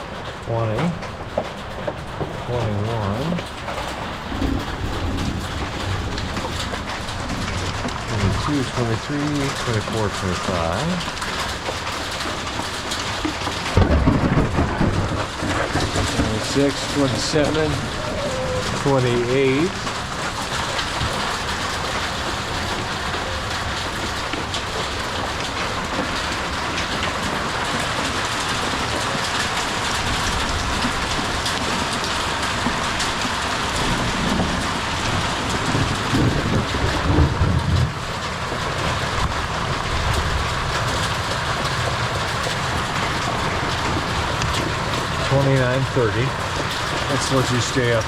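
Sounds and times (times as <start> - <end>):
hail drumming on a roof: 0.0 - 48.0
low rumble of thunder: 0.0 - 48.0.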